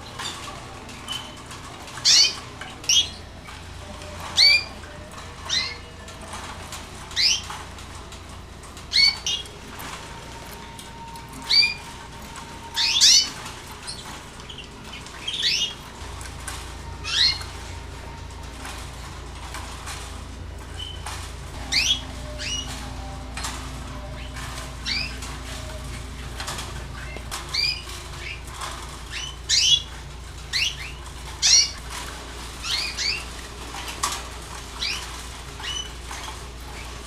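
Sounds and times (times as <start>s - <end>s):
canaries calling: 0.0s - 37.0s.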